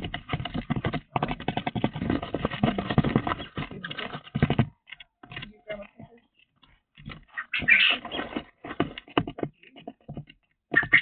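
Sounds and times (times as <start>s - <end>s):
bird bills clicking and tapping: 0.0s - 11.0s.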